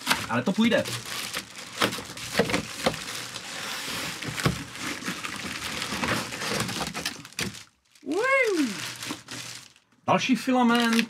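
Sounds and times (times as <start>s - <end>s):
packaging rustling and crinkling: 0.0s - 10.0s, 10.7s - 11.0s.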